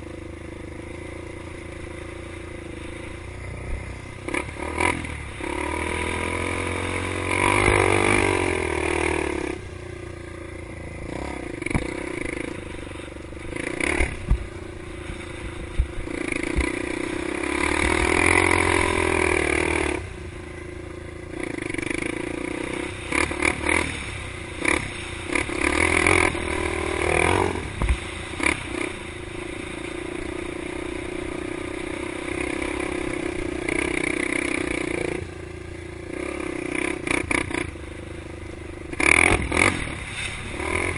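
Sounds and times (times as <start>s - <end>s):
engine revving: 0.0s - 40.9s.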